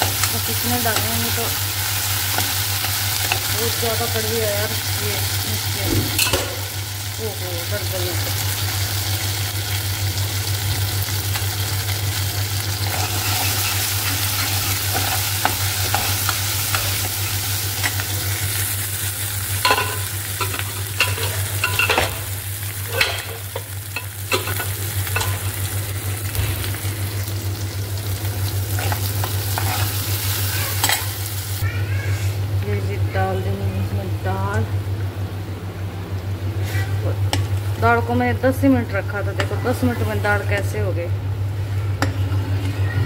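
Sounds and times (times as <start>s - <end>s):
onions sizzling in hot oil: 0.0s - 31.7s, 37.0s - 42.0s.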